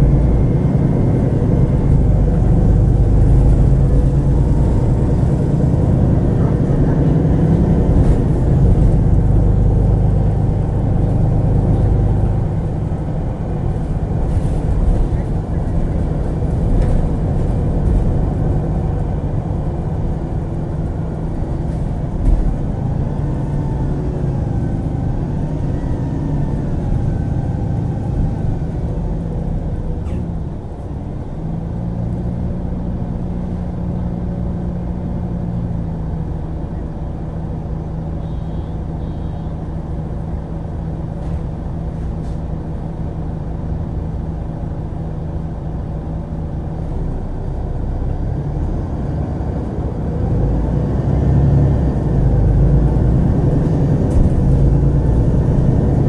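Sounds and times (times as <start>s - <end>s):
bus drivetrain hum with whine: 0.0s - 56.0s.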